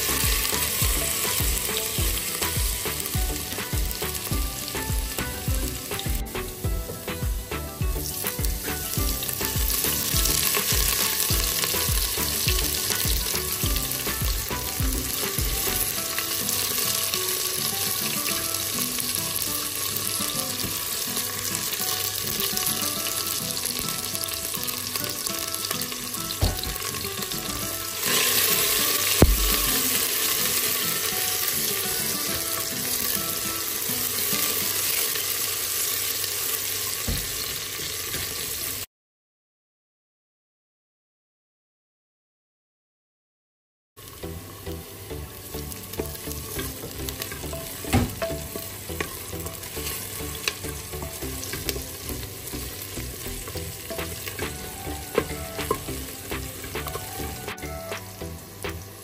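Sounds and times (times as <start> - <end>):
onions sizzling in oil: 0.0 - 38.9, 44.0 - 59.0.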